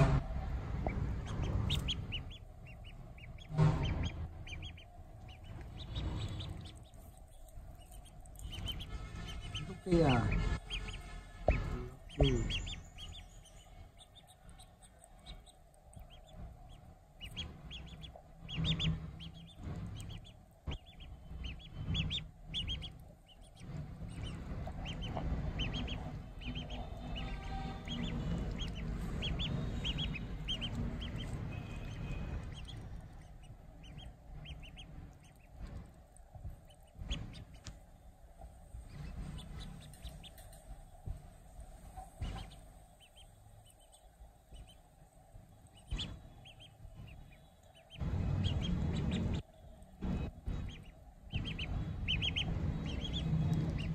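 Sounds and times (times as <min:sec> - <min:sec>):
duckling peeping: 0:00.0 - 0:53.9
low rumble: 0:00.0 - 0:53.9.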